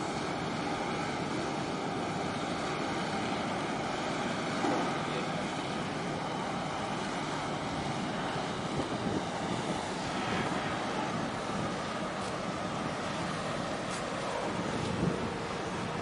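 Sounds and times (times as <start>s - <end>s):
ship machinery drone: 0.0s - 16.0s
water noise: 0.0s - 16.0s
wind: 0.0s - 16.0s.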